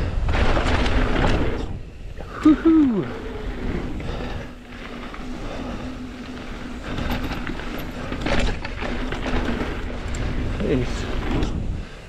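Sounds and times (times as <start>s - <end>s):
bike clattering: 0.0s - 12.0s
bike tyres rolling on dirt: 0.0s - 12.0s
thin steady hum: 0.9s - 12.0s.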